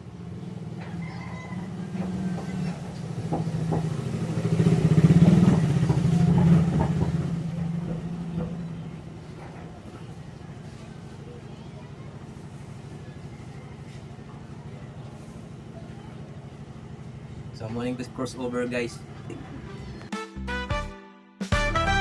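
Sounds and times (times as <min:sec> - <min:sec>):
passing vehicle engine hum: 0:00.0 - 0:20.1.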